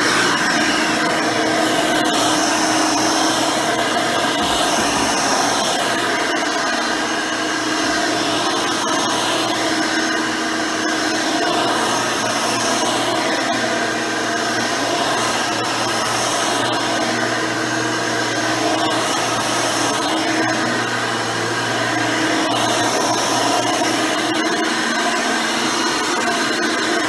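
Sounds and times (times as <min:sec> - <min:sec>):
upright vacuum running on carpet: 0:00.0 - 0:27.0.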